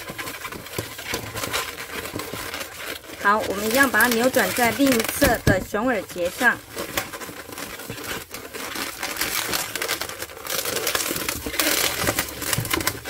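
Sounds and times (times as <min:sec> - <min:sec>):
balloons rubbing and crackling: 0:00.0 - 0:13.0.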